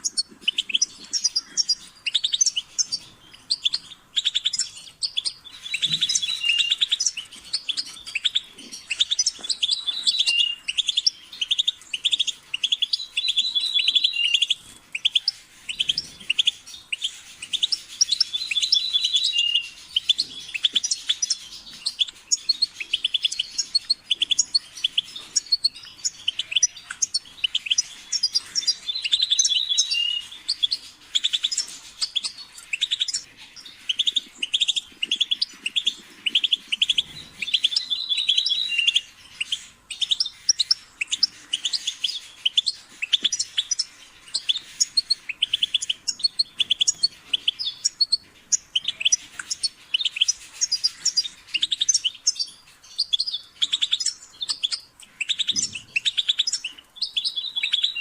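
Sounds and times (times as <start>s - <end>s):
bird twittering and trilling: 0.0s - 58.0s.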